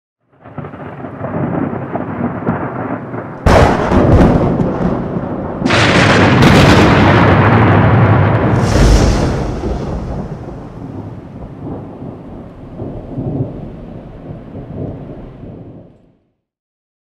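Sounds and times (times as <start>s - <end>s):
thunder rumble and cracks: 0.3s - 16.0s.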